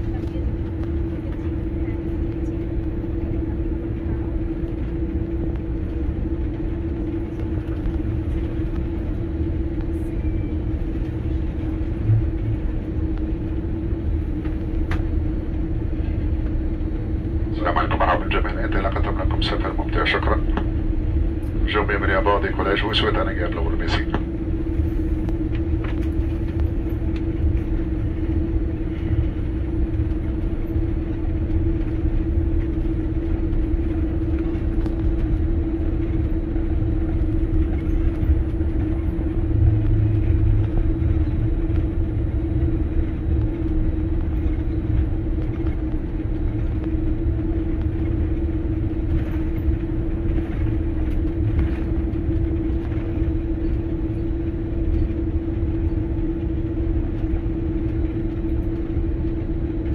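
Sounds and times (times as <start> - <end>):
airliner engines rumbling: 0.0 - 59.9
constant cabin hum: 0.0 - 59.9.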